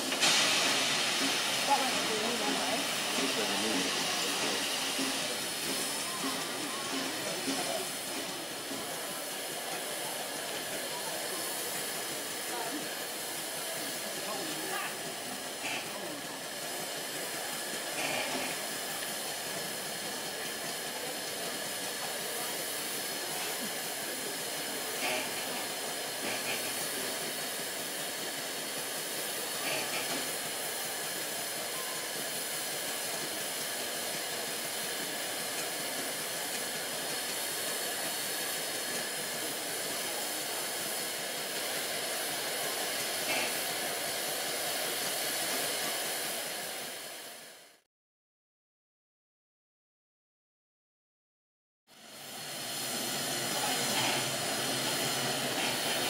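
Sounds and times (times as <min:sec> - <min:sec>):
steam locomotive hissing: 0:00.0 - 0:47.9, 0:51.9 - 0:56.0.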